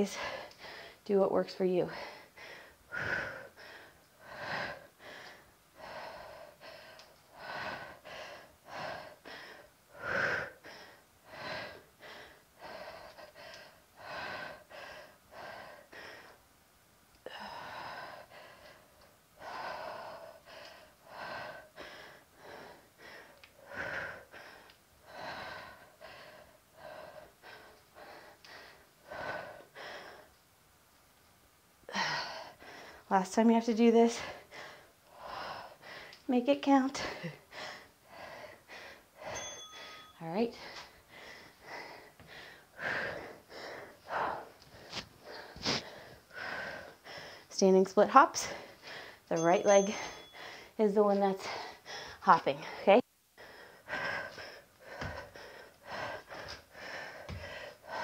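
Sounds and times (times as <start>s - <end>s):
woman breathing hard: 0.0s - 1.0s, 1.8s - 16.5s, 17.2s - 30.4s, 31.8s - 33.1s, 34.2s - 36.3s, 37.0s - 47.6s, 48.4s - 58.0s.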